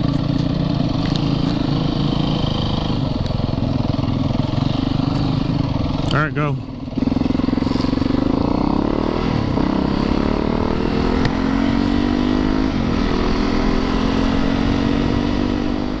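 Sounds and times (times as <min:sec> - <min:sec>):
dirt bike engine accelerating: 0:00.0 - 0:16.0.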